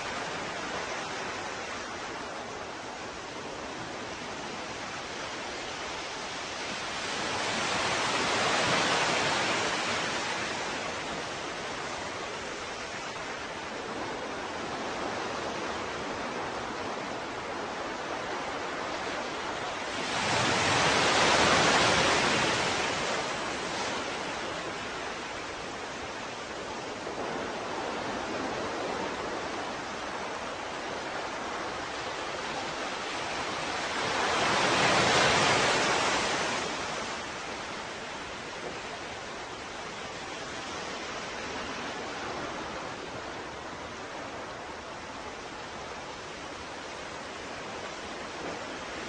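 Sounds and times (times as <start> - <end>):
ocean waves washing on shore: 0.0 - 49.0.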